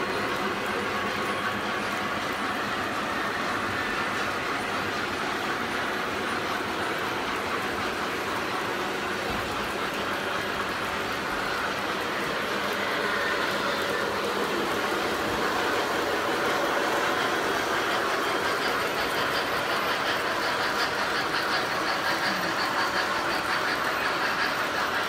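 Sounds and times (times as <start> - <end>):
model train wheels and motors running: 0.0 - 25.0
wheels clicking over rail joints: 0.0 - 25.0.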